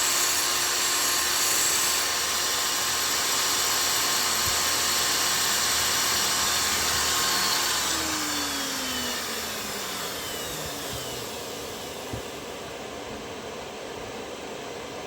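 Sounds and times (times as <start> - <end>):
electric grinder running: 0.0 - 12.8.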